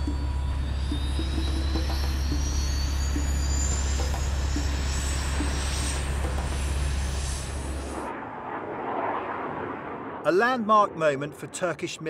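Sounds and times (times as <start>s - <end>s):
high turbine whine: 0.0s - 12.0s
jet engine low rumble: 0.0s - 12.0s.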